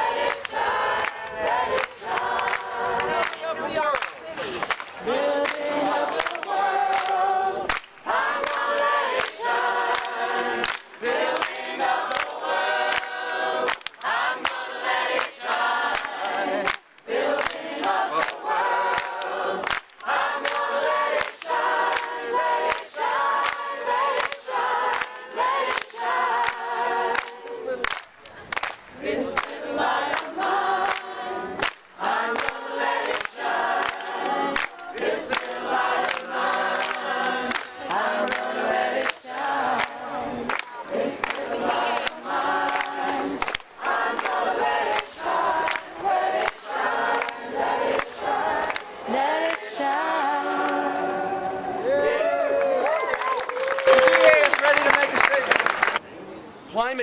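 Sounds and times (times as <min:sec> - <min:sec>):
group of people singing: 0:00.0 - 0:03.8, 0:04.4 - 0:28.1, 0:28.8 - 0:52.2.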